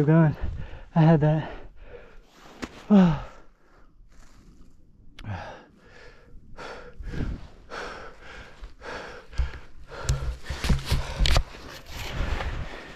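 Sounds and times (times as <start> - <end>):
person breathing hard: 0.4 - 4.3, 5.2 - 12.9.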